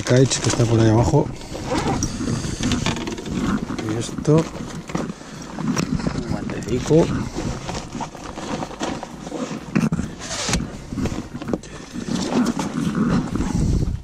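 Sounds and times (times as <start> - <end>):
wind buffeting microphone: 0.0 - 14.0
backpack fabric rustling and bumping: 0.2 - 14.0.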